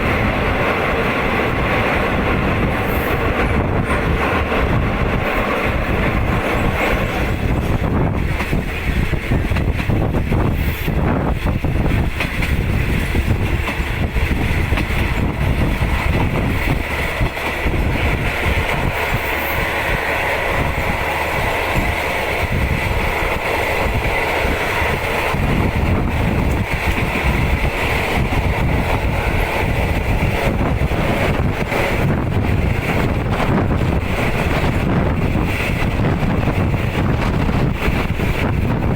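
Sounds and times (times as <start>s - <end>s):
train wheels rumbling on track: 0.0s - 38.9s
wind buffeting microphone: 0.0s - 38.9s.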